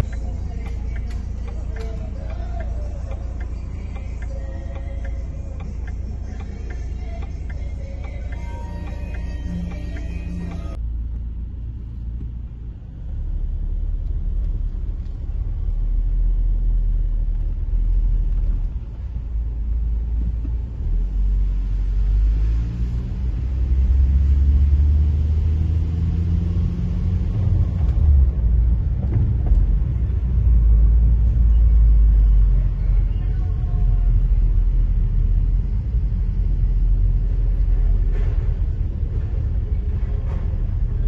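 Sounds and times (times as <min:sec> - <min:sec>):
car engine and tyre noise: 0:00.0 - 0:41.0.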